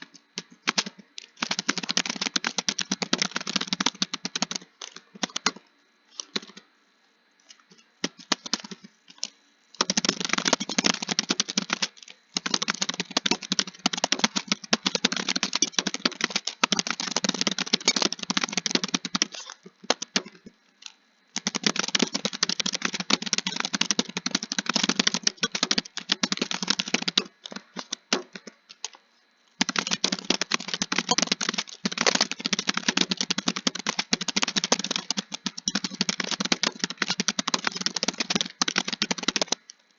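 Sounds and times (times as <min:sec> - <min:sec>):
keyboard typing: 0:00.0 - 0:06.6, 0:08.0 - 0:20.5, 0:21.4 - 0:29.0, 0:29.6 - 0:39.8.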